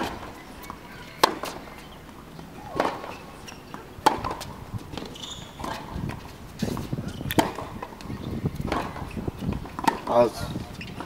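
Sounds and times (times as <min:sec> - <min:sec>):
tennis ball struck by rackets: 0:00.0 - 0:01.6, 0:02.6 - 0:10.2.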